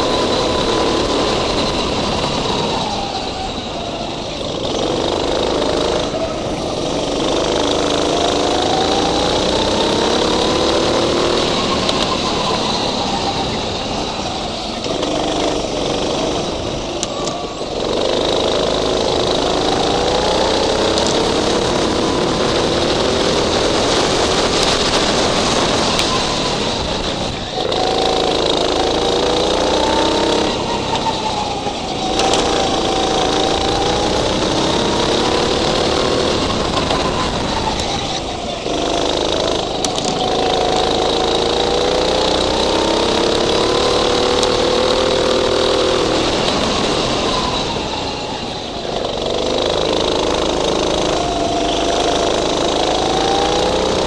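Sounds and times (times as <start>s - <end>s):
go-kart engine revving: 0.0s - 54.0s
wind and road noise: 0.0s - 54.0s.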